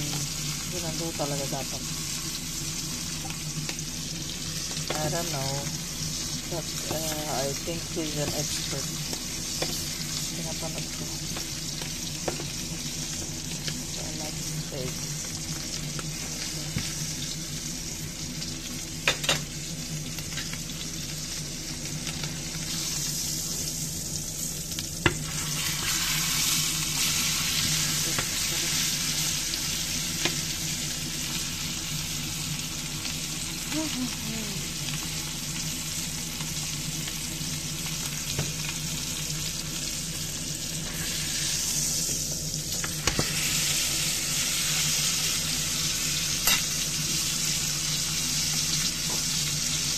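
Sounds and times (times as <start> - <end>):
steady low hum: 0.0 - 47.4
steak sizzling in a skillet: 0.0 - 49.9.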